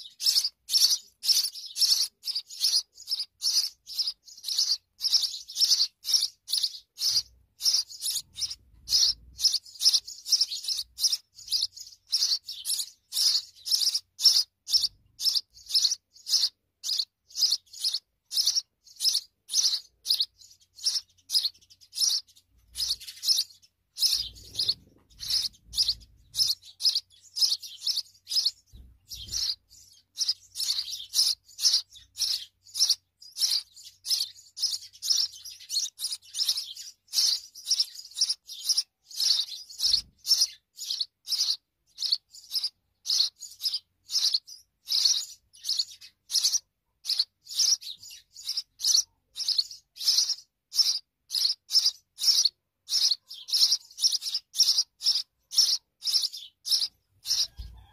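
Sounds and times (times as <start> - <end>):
nestlings cheeping: 0.0 - 57.9.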